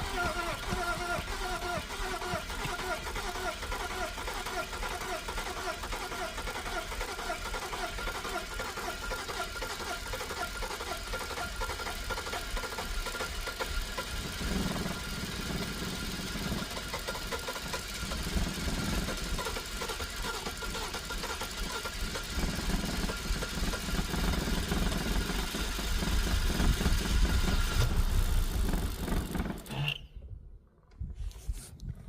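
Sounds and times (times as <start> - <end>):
starter motor cranking: 0.0 - 30.1.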